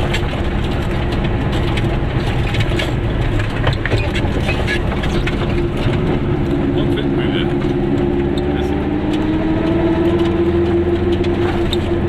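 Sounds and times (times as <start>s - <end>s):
small car engine running: 0.0s - 12.0s
small rattles and clicks: 0.0s - 12.0s.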